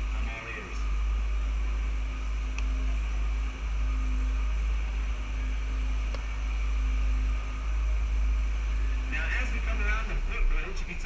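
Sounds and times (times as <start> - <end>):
boat engine low hum: 0.0 - 11.0
faint steady tone: 0.0 - 11.0.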